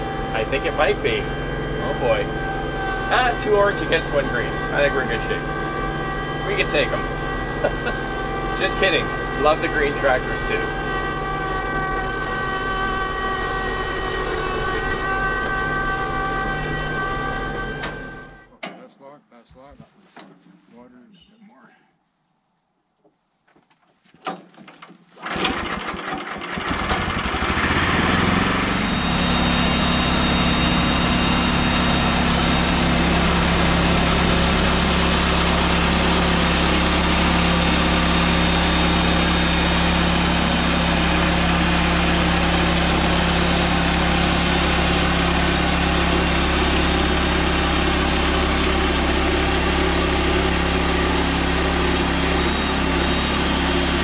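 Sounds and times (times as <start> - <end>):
gas engine starting and revving: 0.0 - 18.5, 25.2 - 54.0.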